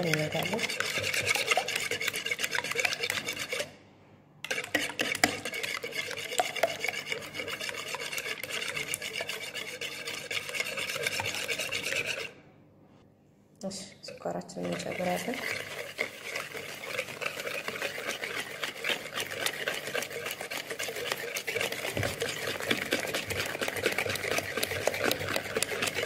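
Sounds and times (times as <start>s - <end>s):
whisk beating eggs in bowl: 0.0s - 3.8s, 4.4s - 12.4s, 13.7s - 26.0s.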